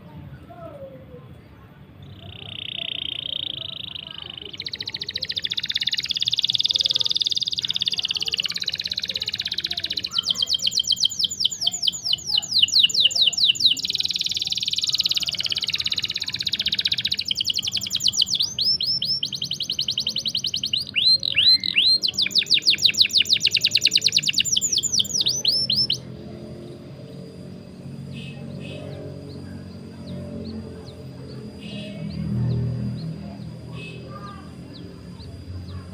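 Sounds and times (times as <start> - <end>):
canary singing trills: 1.8 - 35.9.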